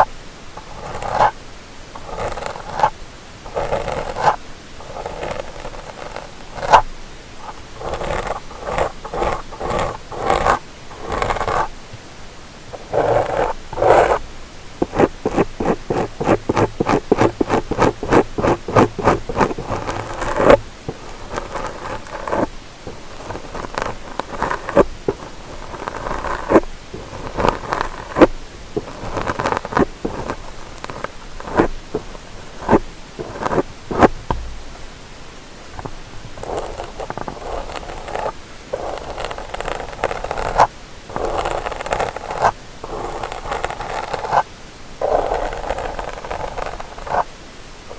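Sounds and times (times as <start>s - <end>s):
tool scratching microphone ear: 0.0s - 1.4s, 2.0s - 11.7s, 12.7s - 14.2s, 14.8s - 34.6s, 35.7s - 47.3s.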